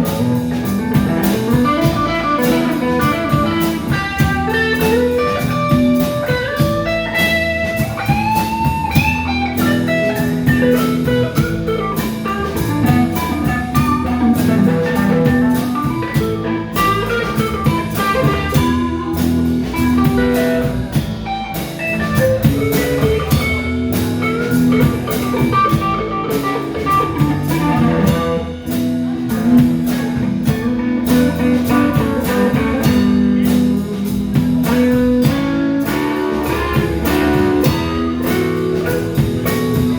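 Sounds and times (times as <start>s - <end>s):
bass guitar: 0.0s - 39.9s
drum kit beat: 0.0s - 39.9s
lead guitar with bent notes: 0.0s - 39.9s.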